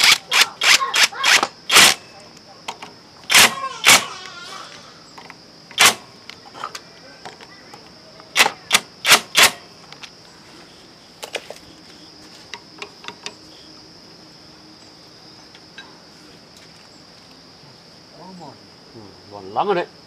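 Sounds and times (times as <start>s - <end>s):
high-pitched insect chirring: 0.0s - 17.3s.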